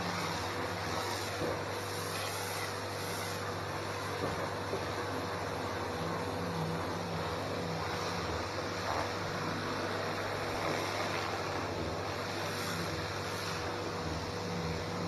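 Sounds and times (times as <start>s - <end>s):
pressure washer motor hum: 0.0s - 15.0s
water jet spraying paving: 0.0s - 15.0s.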